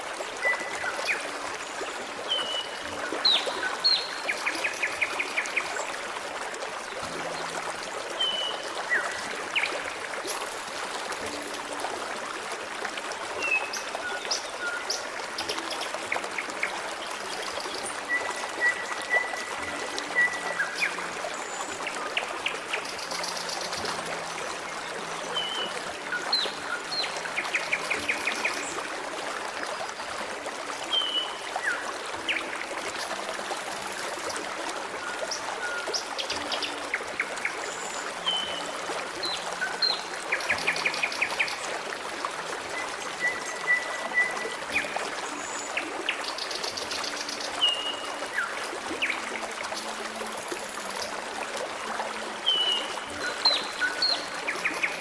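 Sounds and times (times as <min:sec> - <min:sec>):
forest stream babbling: 0:00.0 - 0:55.0.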